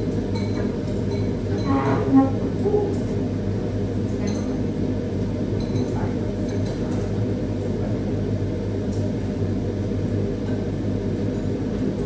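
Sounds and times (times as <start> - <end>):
steady low hum and rumble: 0.0 - 12.0.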